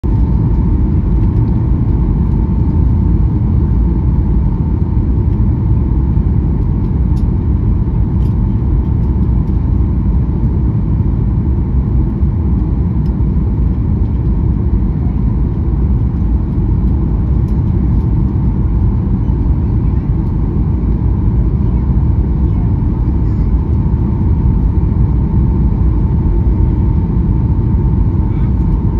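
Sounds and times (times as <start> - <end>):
airliner cabin engine rumble: 0.0 - 28.9
faint steady whine: 0.1 - 28.9.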